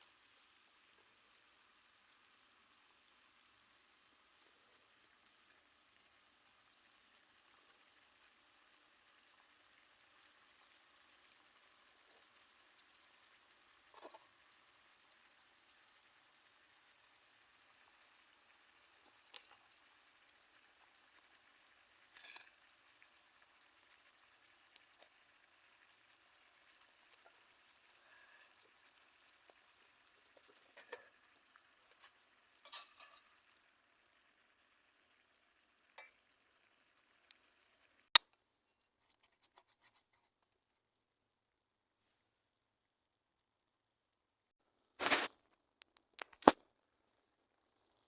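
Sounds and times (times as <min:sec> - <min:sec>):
food sizzling in a pan: 0:00.0 - 0:38.2, 0:45.0 - 0:45.3.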